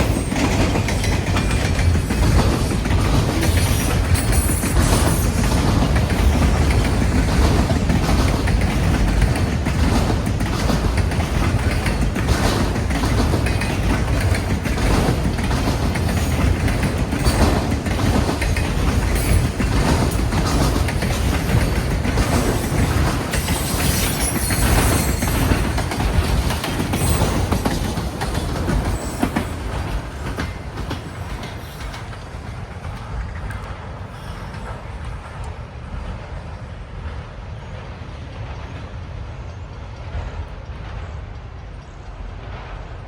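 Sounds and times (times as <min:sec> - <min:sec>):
wheels clicking over rail joints: 0:00.0 - 0:35.5
freight train cars rolling: 0:00.0 - 0:43.0.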